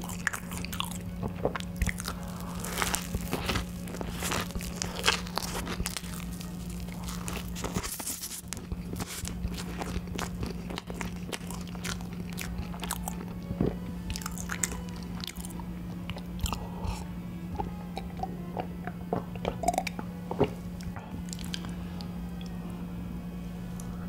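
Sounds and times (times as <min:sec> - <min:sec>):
person chewing and eating: 0:00.0 - 0:22.6
steady low hum: 0:00.0 - 0:24.0.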